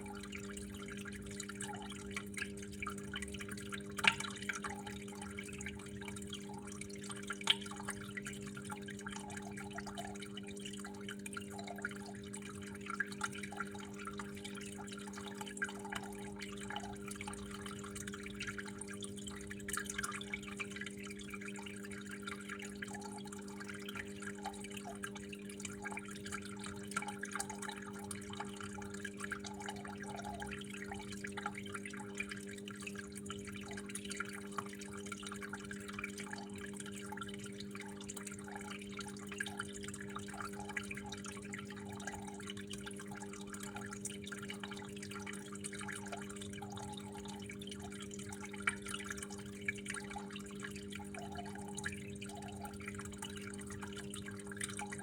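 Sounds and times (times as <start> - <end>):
water running and dripping: 0.0 - 55.0.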